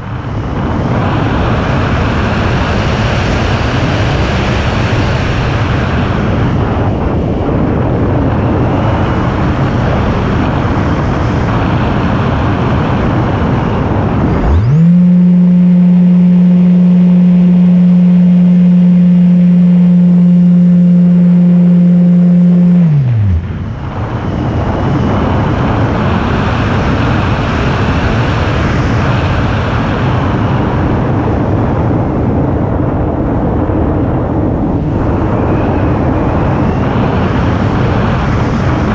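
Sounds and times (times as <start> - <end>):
aircraft motor and propeller: 0.0 - 38.9
loud steady hum gliding in pitch: 0.0 - 38.9
wind rushing over microphone: 0.0 - 38.9.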